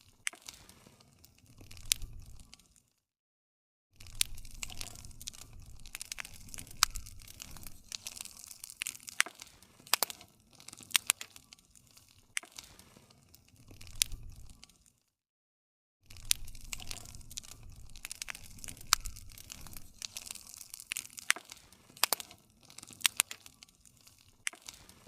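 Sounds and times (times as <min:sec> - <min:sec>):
wood fire crackling: 0:00.0 - 0:02.9, 0:04.0 - 0:15.0, 0:16.1 - 0:25.0.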